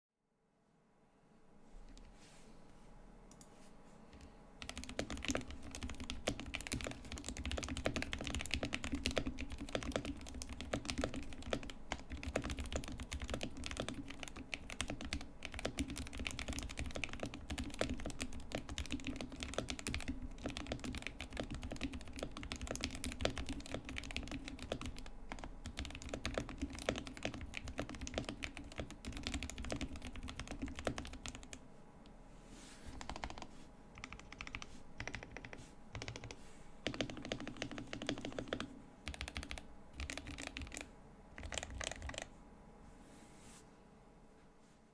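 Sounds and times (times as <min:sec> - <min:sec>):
faint steady hum: 0:00.2 - 0:44.9
fast typing on mechanical keyboard: 0:04.6 - 0:31.6, 0:32.9 - 0:42.3.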